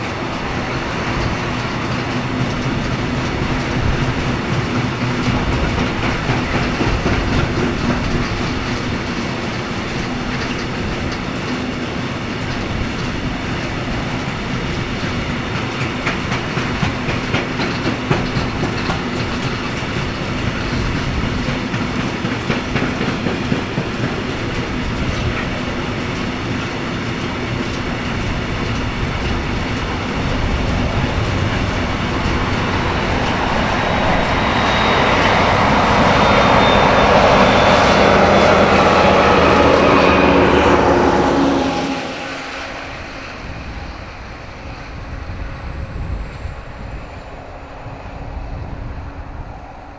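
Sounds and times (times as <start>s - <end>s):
wheels clattering over rail joints: 0.0s - 47.2s
freight train rolling past: 0.0s - 49.9s.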